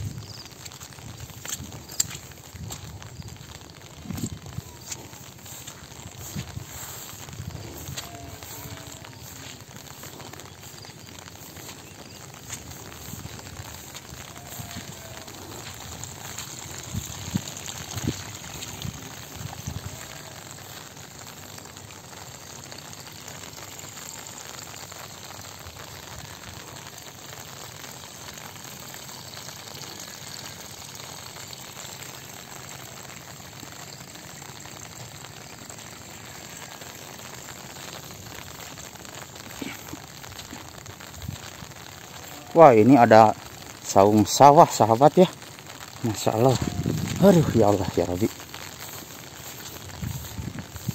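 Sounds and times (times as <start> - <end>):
light rain falling: 0.0 - 50.9.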